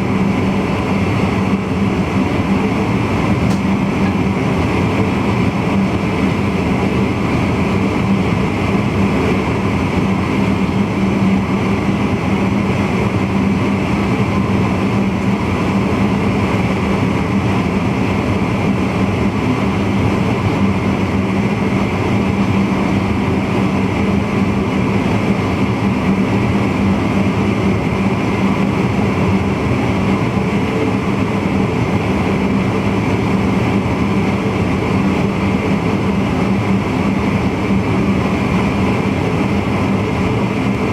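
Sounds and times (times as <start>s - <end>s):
train running rumble and hum: 0.0s - 40.9s.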